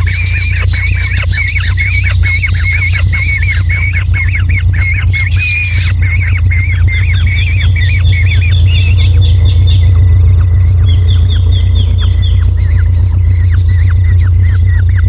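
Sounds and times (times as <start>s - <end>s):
bird chirping: 0.0s - 15.0s
high pulsing buzz: 0.0s - 15.0s
loud low hum: 0.0s - 15.0s.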